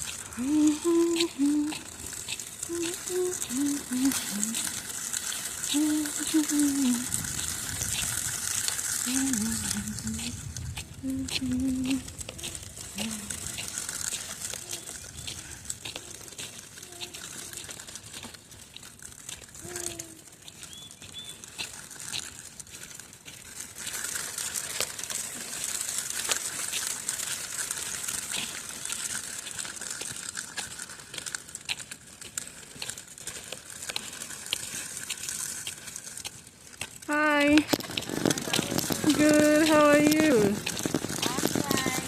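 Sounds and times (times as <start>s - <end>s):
footsteps crunching on ice: 0.0s - 42.0s.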